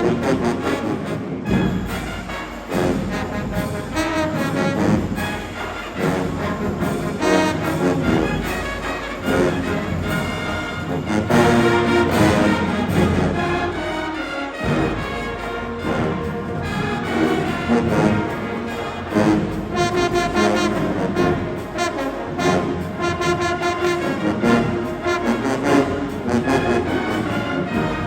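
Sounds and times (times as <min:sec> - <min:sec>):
marching band brass chords: 0:00.0 - 0:28.0.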